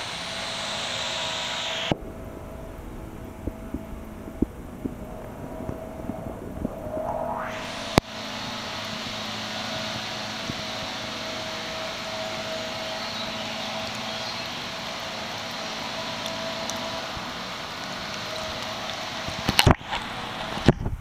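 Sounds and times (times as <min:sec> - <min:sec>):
stream water rushing: 0:00.0 - 0:20.8.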